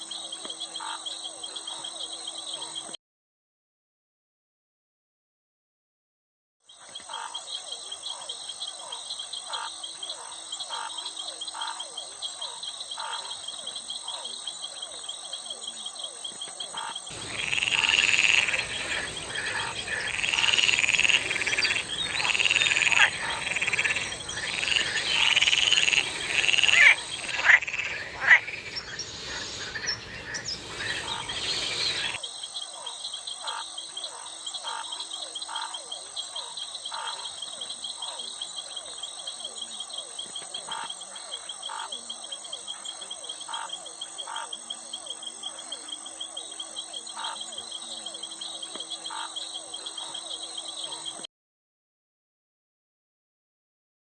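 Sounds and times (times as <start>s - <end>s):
frogs croaking: 0.0s - 3.0s, 6.6s - 51.3s
insects chirring: 6.7s - 51.2s.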